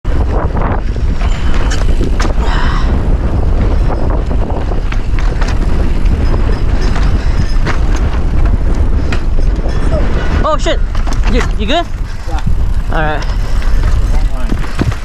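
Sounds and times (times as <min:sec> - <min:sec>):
wind rumble on microphone: 0:00.0 - 0:15.0
bike rattling over rocks: 0:00.1 - 0:15.0.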